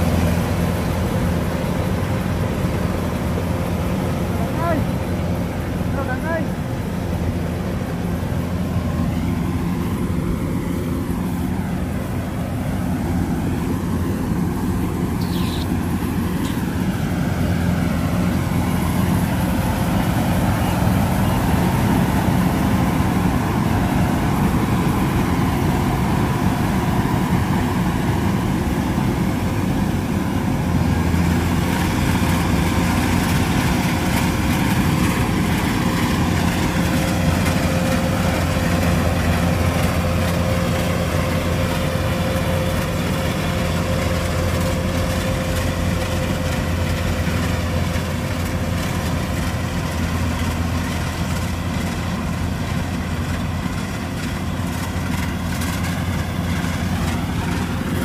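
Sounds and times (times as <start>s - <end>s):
diesel engine hum: 0.0s - 58.0s.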